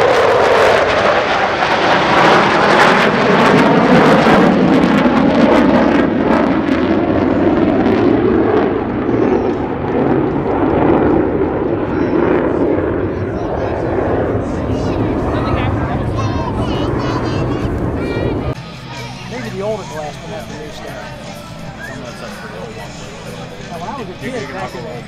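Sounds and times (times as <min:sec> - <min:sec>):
fighter jets flying past: 0:00.0 - 0:25.0.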